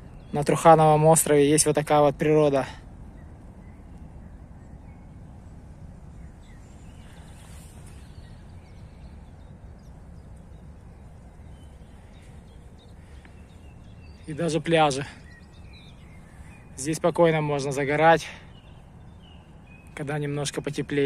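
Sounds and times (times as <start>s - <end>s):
faint birds chirping: 0.0s - 21.0s
steady low rumble: 0.0s - 21.0s.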